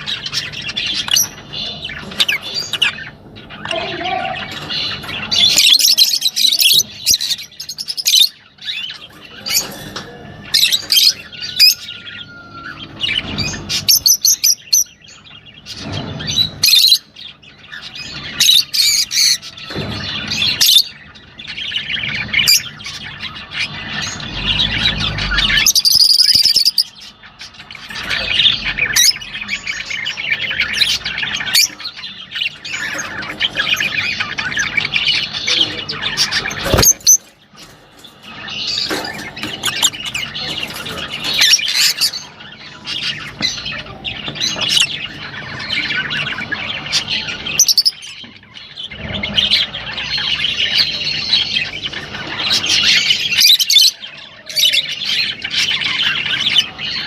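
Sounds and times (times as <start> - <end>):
cage birds chirping and squawking: 0.0 - 57.0.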